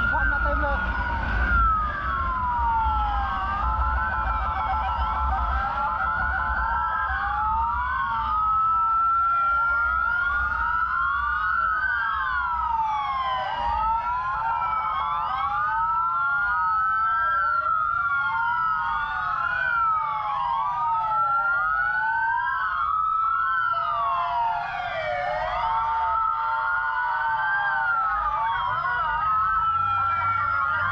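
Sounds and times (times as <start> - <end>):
sirens wailing: 0.0 - 30.9.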